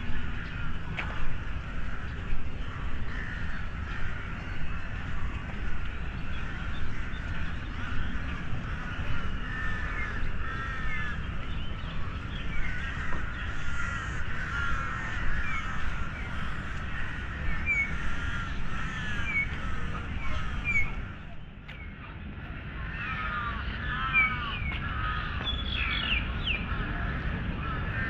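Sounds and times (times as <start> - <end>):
birds calling: 0.0 - 22.0, 22.8 - 28.0
steady low rumble: 0.0 - 28.0.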